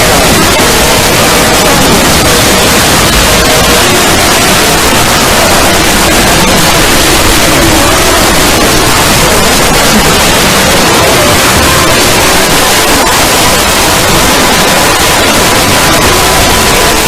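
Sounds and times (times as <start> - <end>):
distorted static noise: 0.0 - 17.0
faint high tone: 0.0 - 17.0.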